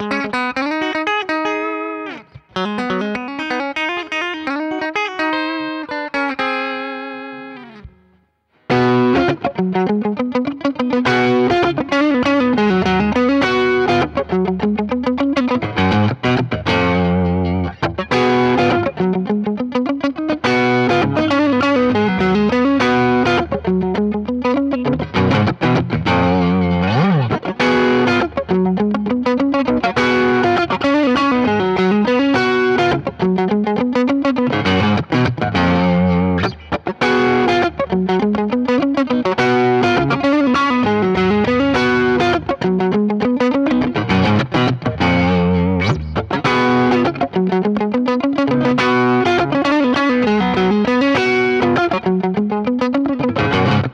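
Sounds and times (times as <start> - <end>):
electric guitar chords and riffs: 0.0 - 53.9.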